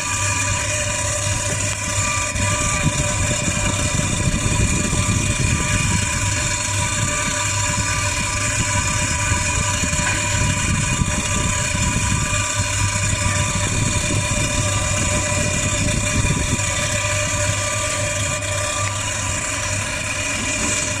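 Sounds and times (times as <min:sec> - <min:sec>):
refrigeration unit humming: 0:00.0 - 0:21.0.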